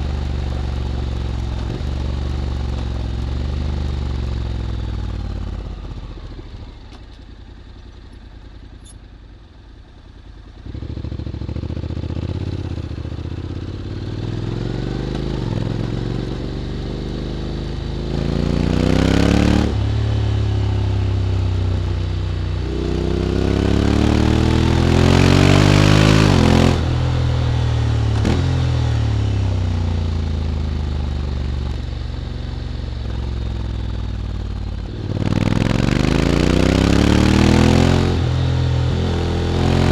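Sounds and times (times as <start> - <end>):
motorcycle engine accelerating: 0.0 - 9.0, 10.4 - 39.9.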